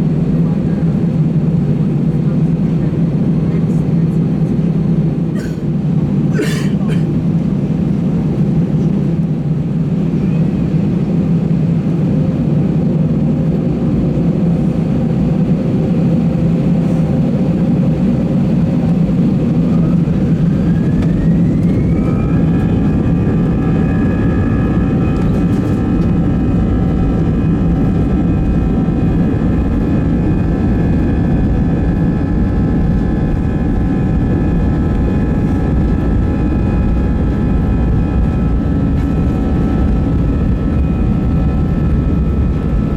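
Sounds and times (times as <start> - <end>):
jet engine rumble in cabin: 0.0 - 42.9
jet engine whine: 0.0 - 42.9.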